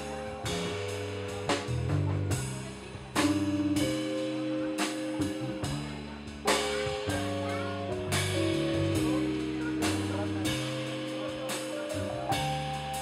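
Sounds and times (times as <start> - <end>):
drum and cymbal hits: 0.0 - 13.0
drum kit keeping time: 0.0 - 13.0
keyboard chords: 0.0 - 13.0
low bass notes: 0.0 - 13.0.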